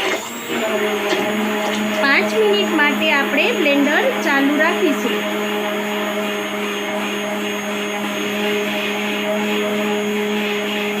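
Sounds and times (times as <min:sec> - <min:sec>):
hand blender motor whirring: 0:00.0 - 0:11.0.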